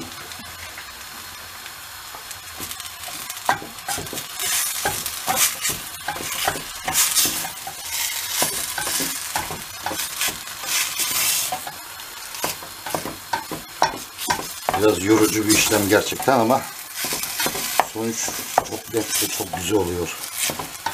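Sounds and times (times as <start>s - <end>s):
potato mash sizzling: 0.0s - 20.9s
wooden spoon scraping a pot: 3.9s - 20.9s.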